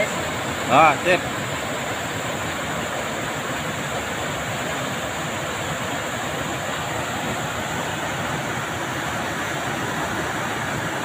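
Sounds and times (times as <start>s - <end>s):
river rapids rushing over rocks: 0.0s - 11.0s.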